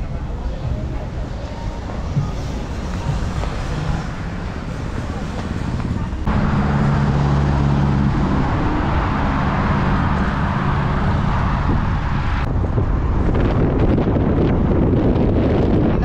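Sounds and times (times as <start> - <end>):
vehicle engine humming: 0.0 - 15.7
wind rushing over microphone: 0.0 - 16.0.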